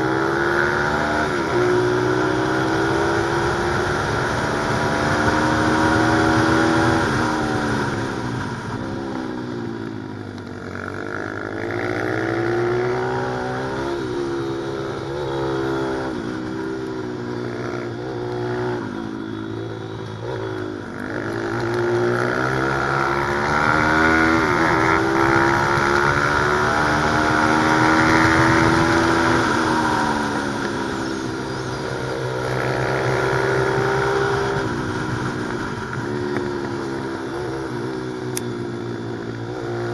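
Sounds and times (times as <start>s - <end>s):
pit bike engine revving: 0.0s - 9.0s, 10.6s - 39.9s.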